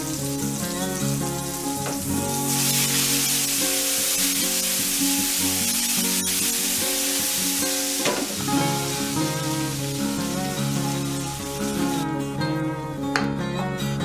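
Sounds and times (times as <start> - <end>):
mushrooms sizzling in a pan: 0.0 - 12.0.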